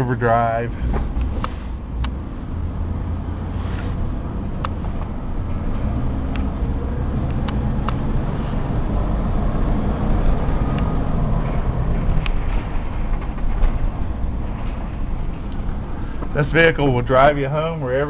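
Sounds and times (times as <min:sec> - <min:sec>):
road noise: 0:00.0 - 0:18.0
truck engine drone: 0:00.0 - 0:18.0.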